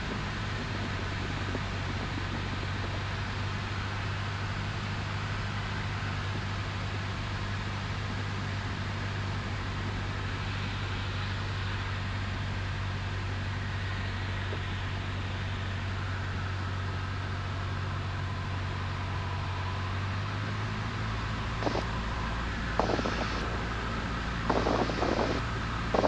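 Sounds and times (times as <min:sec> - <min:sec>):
light aircraft engine and propeller droning: 0:00.0 - 0:26.0.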